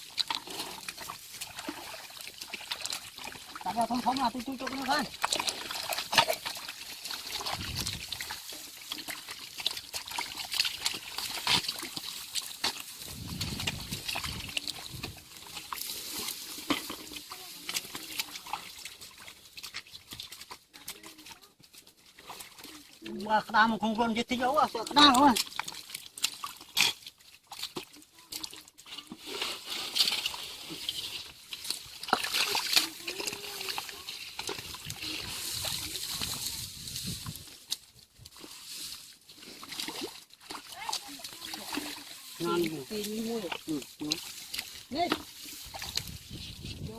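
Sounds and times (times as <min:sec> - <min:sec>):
sharp splashes and knocks: 0:00.0 - 0:23.2, 0:24.4 - 0:46.9
shallow water splashing: 0:00.0 - 0:46.9.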